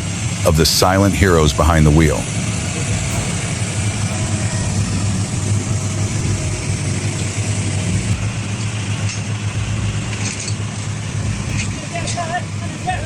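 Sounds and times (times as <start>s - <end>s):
heavy vehicle engine droning: 0.0s - 13.0s.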